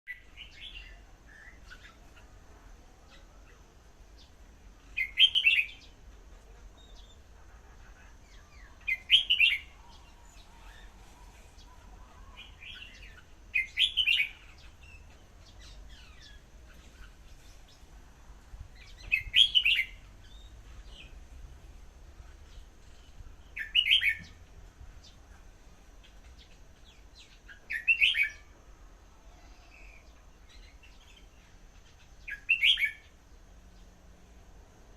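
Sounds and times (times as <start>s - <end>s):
bird warbling song: 0.1s - 17.9s, 18.7s - 21.2s, 22.2s - 28.5s, 29.3s - 33.9s
soft bird chirps: 0.1s - 21.3s, 22.0s - 34.1s.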